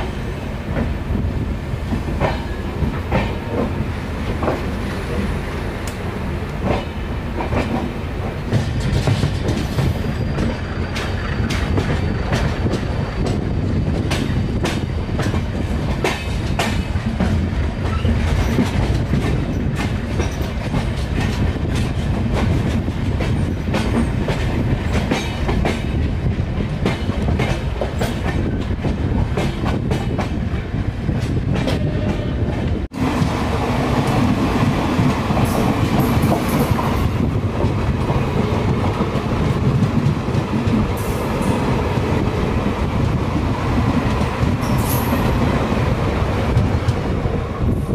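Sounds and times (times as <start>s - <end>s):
train passing on next track: 0.0s - 47.9s
train wheels rumbling on rail: 0.0s - 47.9s.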